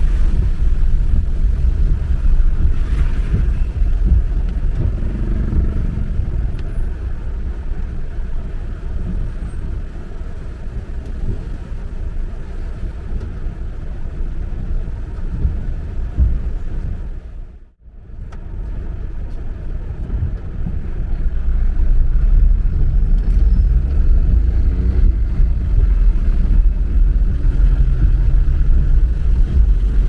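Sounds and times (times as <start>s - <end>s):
car engine rumble: 0.0s - 30.0s
road noise: 0.0s - 30.0s.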